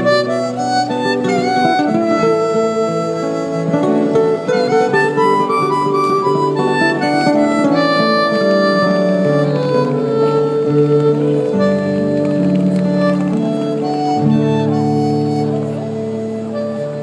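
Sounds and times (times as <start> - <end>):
acoustic guitar accompaniment: 0.0 - 17.0
amplified harmonica held notes: 0.0 - 17.0.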